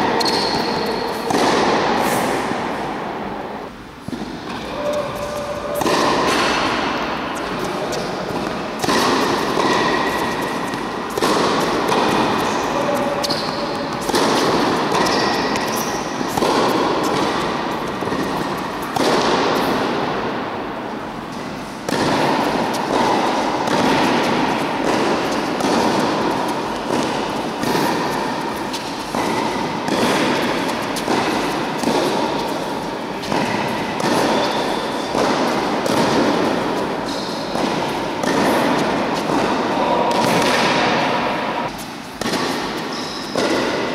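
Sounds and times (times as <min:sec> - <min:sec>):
tennis ball hit by racket: 0:00.0 - 0:03.2, 0:04.1 - 0:43.9.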